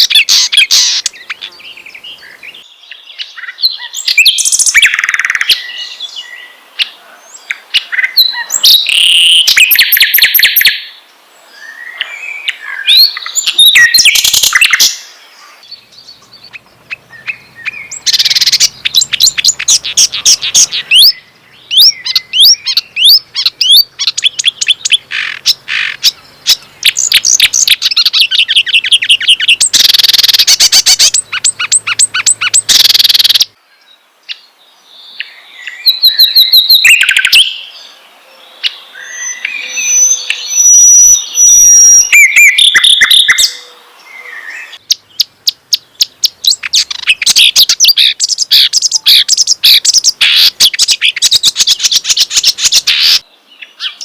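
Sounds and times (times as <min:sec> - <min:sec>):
songbird chirps and trills: 0:00.0 - 0:54.0.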